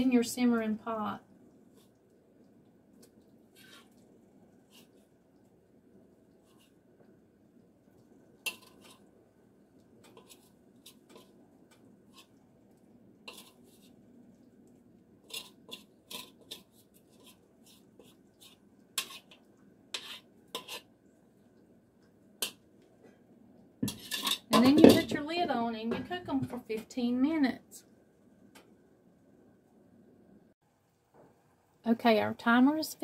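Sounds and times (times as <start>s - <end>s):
faint background noise: 0.0s - 33.0s.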